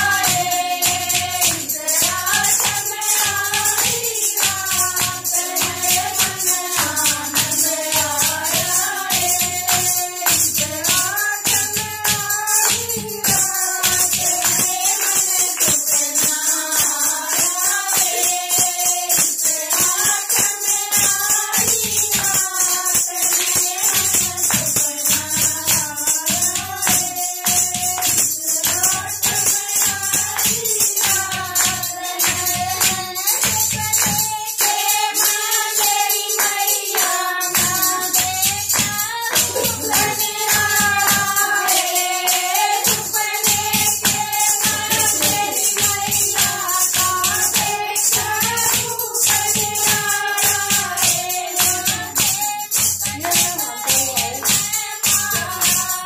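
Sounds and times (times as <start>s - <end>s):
hand claps: 0.0s - 56.0s
jingling clappers: 0.0s - 56.0s
women singing together: 0.0s - 56.0s.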